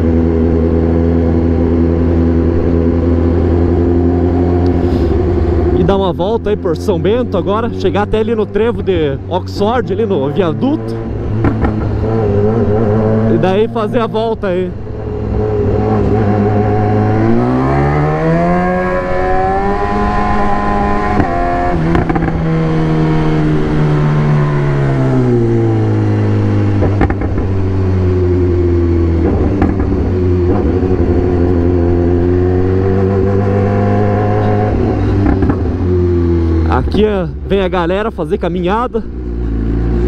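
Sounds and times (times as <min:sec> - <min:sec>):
motorcycle engine revving: 0:00.0 - 0:37.7, 0:38.7 - 0:40.0.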